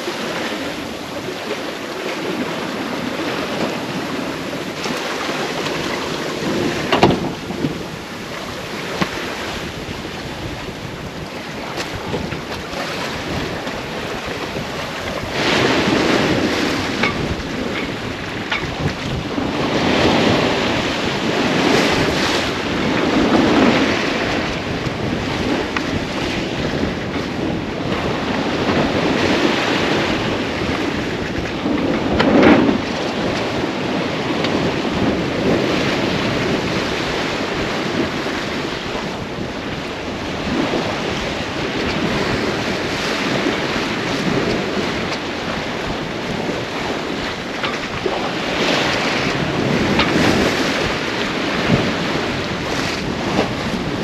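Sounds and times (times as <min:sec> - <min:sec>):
water rushing past boat: 0:00.0 - 0:54.0
wind buffeting microphone: 0:00.0 - 0:54.0.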